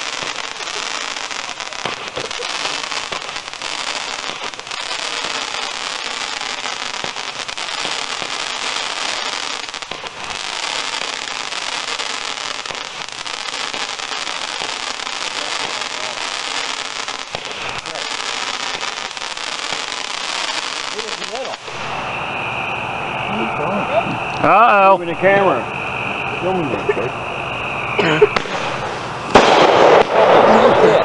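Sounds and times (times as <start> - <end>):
fireworks crackling: 0.0 - 31.0.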